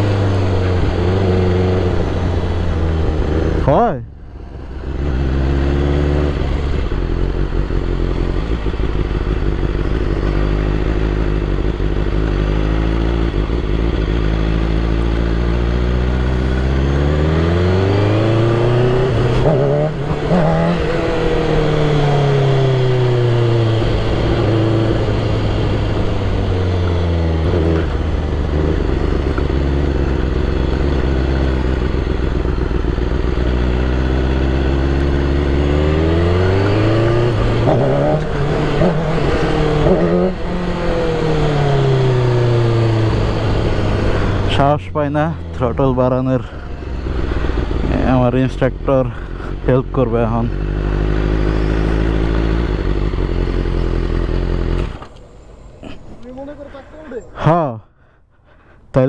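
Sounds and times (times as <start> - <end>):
motorcycle engine revving: 0.0 - 58.7.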